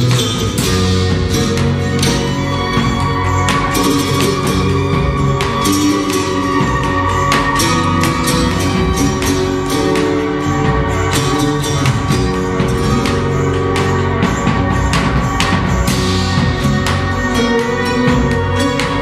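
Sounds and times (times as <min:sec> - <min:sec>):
acoustic guitars: 0:00.0 - 0:19.0
bowed electric fiddle melody: 0:00.0 - 0:19.0
drums and percussion: 0:00.0 - 0:19.0
electric bass: 0:00.0 - 0:19.0.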